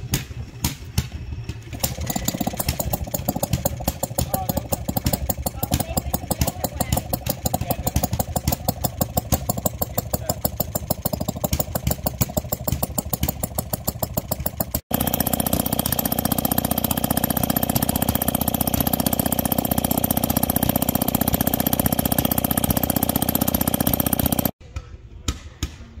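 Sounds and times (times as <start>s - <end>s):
small engine running: 0.0s - 24.6s.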